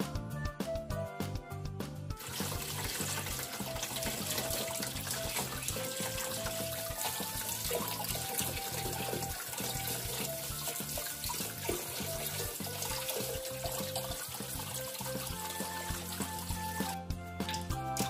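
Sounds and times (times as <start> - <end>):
tap running into water: 2.2 - 18.0.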